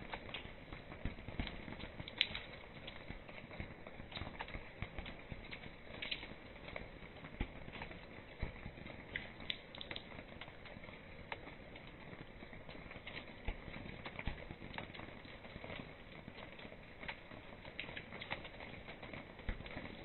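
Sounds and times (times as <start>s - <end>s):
rain on tiled floor: 0.0s - 20.0s.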